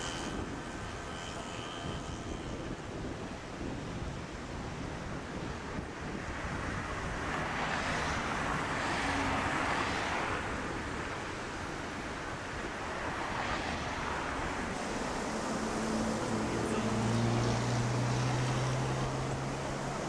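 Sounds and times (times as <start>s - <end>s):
outdoor rushing noise: 0.0s - 20.0s.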